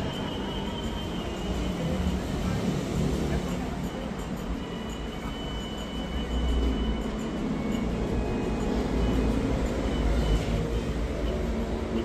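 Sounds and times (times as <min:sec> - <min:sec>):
city traffic rumble: 0:00.0 - 0:12.0
thin high steady tone: 0:00.0 - 0:12.0.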